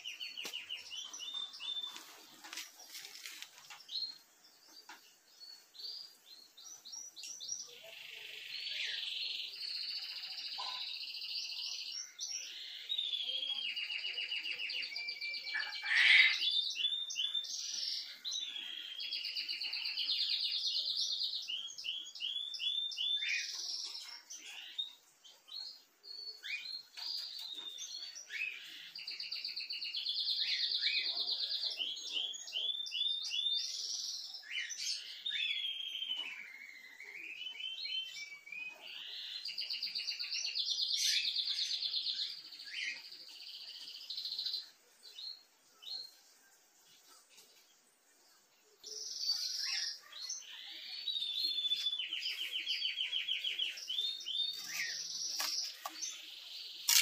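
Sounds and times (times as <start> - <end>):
songbird trilling and chirping: 0.0 - 57.0.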